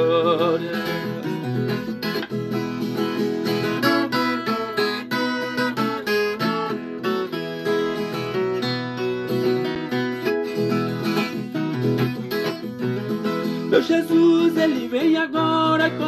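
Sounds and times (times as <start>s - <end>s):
steel-string guitar plucked and strummed: 0.0s - 16.0s.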